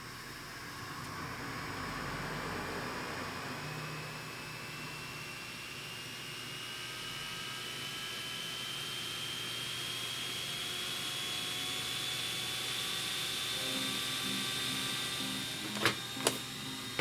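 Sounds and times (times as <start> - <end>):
laptop fan whirring and whining: 0.0 - 17.0.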